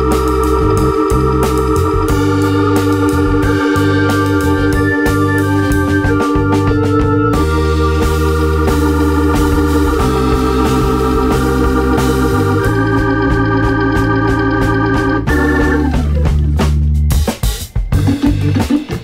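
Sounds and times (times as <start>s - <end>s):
steady bass: 0.0s - 19.0s
sustained keyboard chords: 0.0s - 19.0s.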